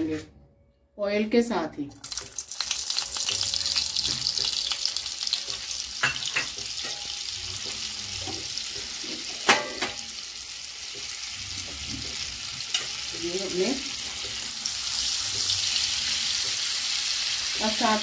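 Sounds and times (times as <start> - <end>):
butter sizzling in hot oil: 2.0 - 18.0.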